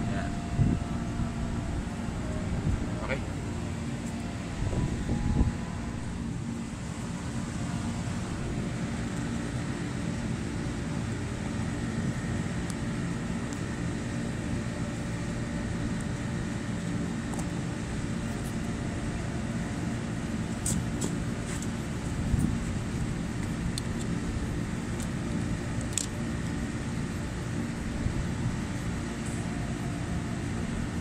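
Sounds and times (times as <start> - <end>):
faint high whine: 0.0 - 31.0
low machine hum: 0.0 - 31.0.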